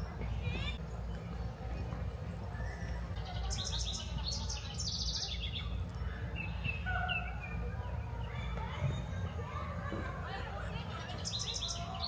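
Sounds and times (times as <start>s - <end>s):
songbirds trilling and chirping: 0.0s - 12.0s.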